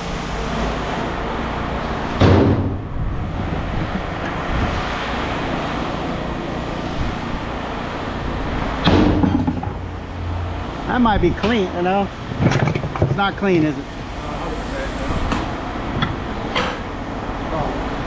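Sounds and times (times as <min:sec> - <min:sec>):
vehicle noise: 0:00.0 - 0:18.0.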